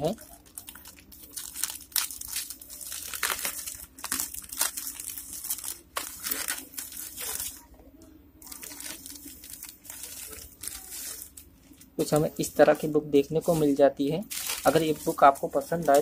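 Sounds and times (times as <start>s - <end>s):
plastic mailer ripping and rustling: 0.2s - 7.7s, 8.5s - 12.3s, 13.4s - 16.0s.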